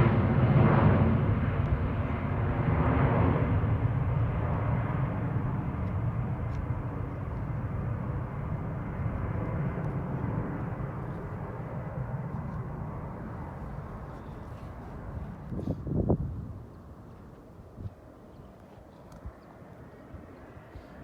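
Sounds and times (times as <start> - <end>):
airliner engine rumble: 0.0 - 21.0.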